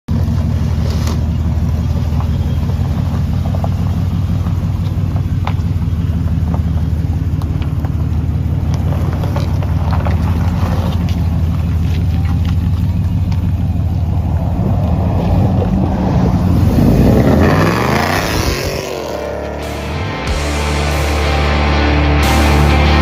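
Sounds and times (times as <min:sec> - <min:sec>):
pickup truck engine idling: 0:00.1 - 0:23.0.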